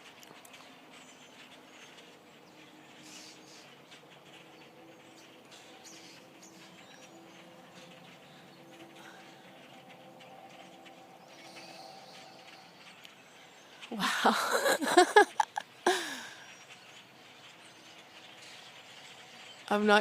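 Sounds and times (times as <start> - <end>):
flock of tiny birds chirping: 0.0 - 20.0
loud wavering bird call: 2.9 - 19.7.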